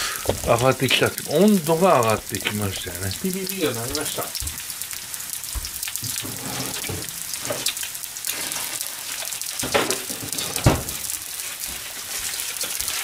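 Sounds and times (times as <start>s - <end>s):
sausage sizzling in oil: 0.0s - 13.0s.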